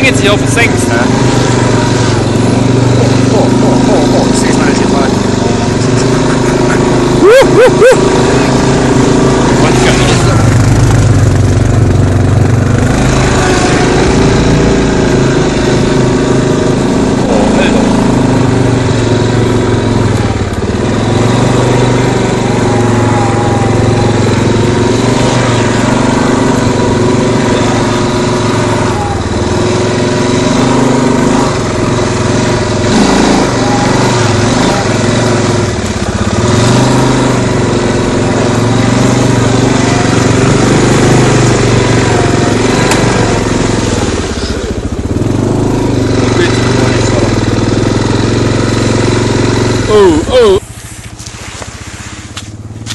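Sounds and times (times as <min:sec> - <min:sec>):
quad engine revving: 0:00.0 - 0:52.9.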